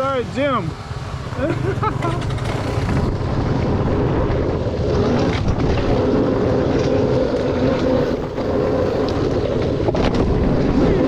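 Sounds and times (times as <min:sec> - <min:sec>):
wind buffeting microphone: 0:00.0 - 0:11.0
dirt bike engine running: 0:00.7 - 0:11.0.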